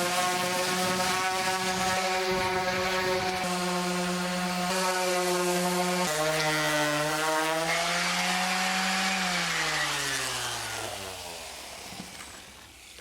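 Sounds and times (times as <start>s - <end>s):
electric sander motor whine: 0.0s - 13.0s.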